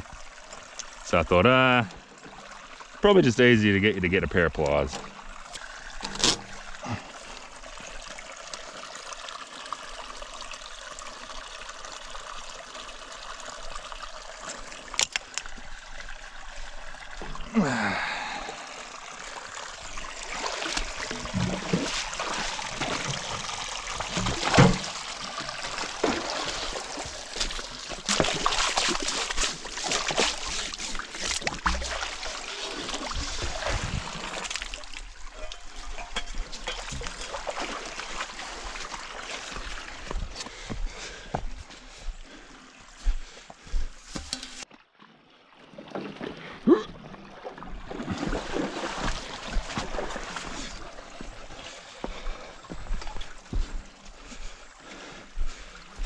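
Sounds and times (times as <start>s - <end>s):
water trickling: 0.0s - 44.7s, 45.6s - 56.0s
water splashing and sloshing: 0.0s - 56.0s.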